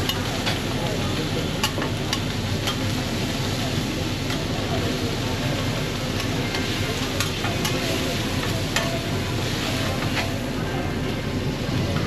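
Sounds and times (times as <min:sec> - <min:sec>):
food sizzling in a pan: 0:00.0 - 0:10.7.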